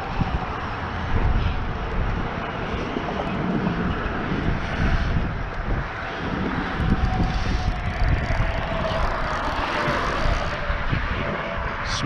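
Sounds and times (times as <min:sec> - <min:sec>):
distant engine drone: 0:00.0 - 0:12.0
wind buffeting microphone: 0:00.0 - 0:12.0.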